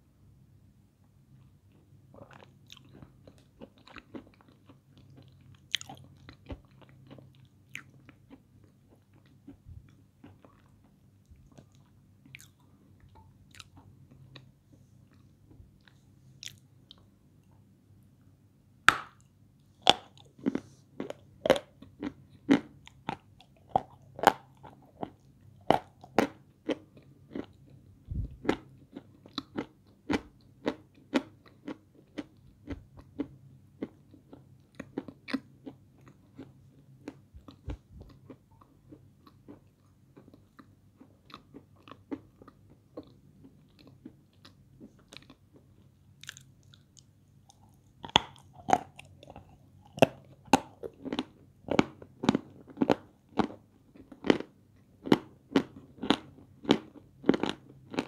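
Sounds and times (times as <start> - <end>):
person chewing crunchy clay: 1.4 - 17.1, 18.9 - 58.0.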